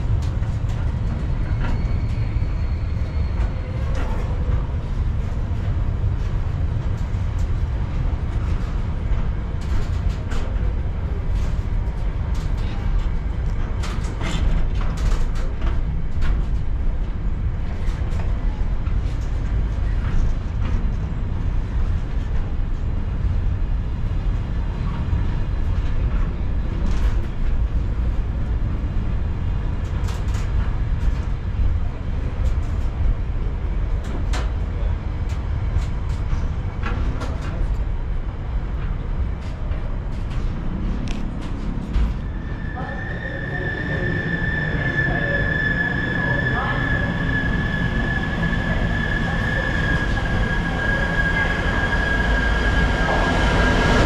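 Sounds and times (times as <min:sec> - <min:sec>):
freight train rumble: 0:00.0 - 0:54.0
train clicks and clanks: 0:00.0 - 0:54.0.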